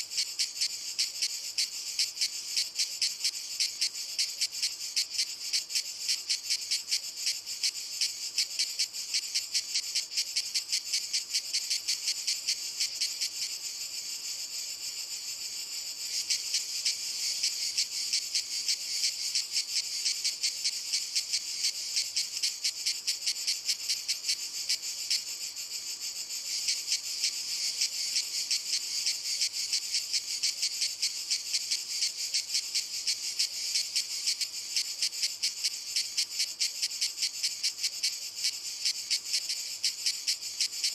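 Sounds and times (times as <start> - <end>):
cicadas pulsing buzz: 0.0 - 40.9.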